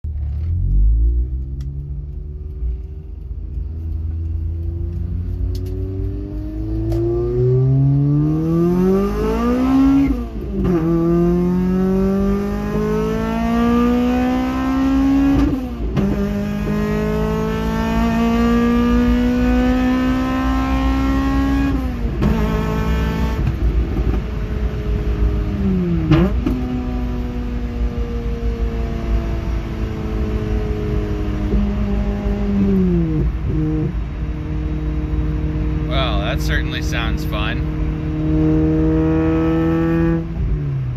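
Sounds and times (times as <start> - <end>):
car engine accelerating hard: 0.1 - 40.9.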